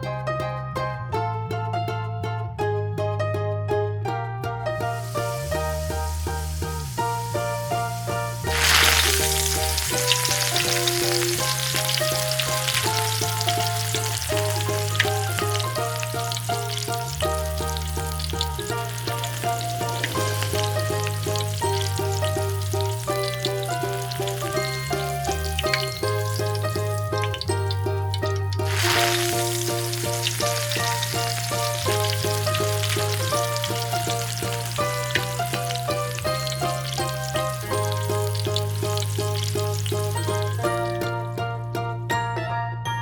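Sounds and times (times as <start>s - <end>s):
background music: 0.0s - 43.0s
food sizzling in a pan: 4.8s - 41.0s.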